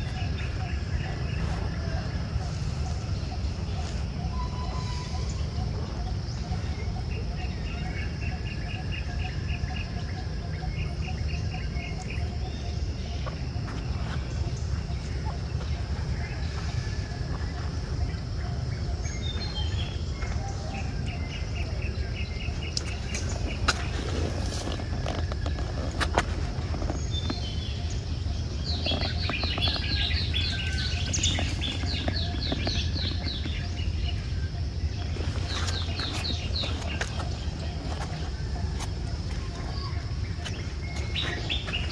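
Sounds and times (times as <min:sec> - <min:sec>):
high insect drone: 0:00.0 - 0:41.9
steady low rumble: 0:00.0 - 0:41.9.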